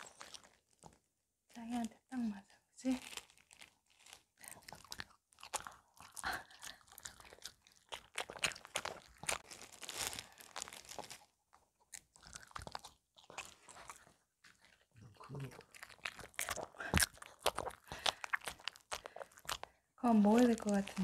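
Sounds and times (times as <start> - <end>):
dog chewing and crunching: 0.0 - 1.0, 2.9 - 21.0.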